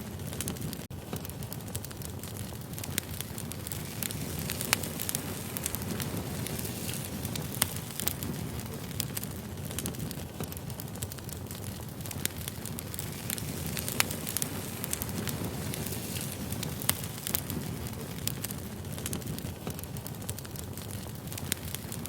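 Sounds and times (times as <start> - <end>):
firewood crackling and popping: 0.0 - 22.0
flames rumbling: 0.0 - 22.0.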